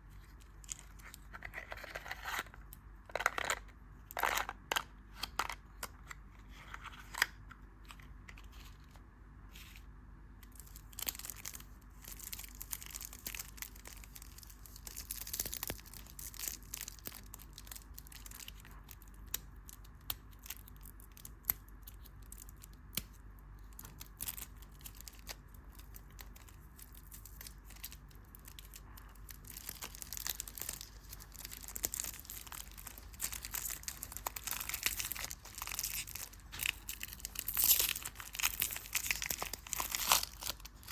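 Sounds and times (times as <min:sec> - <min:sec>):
candy wrapper crinkling: 0:00.2 - 0:09.0, 0:10.4 - 0:40.9.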